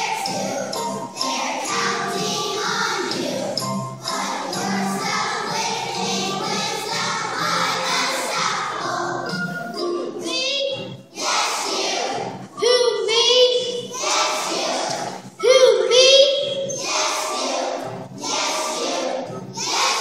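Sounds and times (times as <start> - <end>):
children's choir singing: 0.0 - 20.0
musical accompaniment: 0.0 - 20.0.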